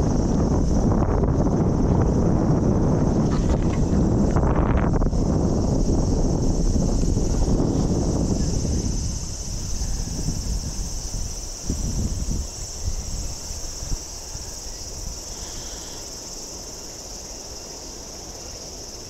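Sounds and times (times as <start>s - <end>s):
insects shrilling: 3.2s - 19.0s.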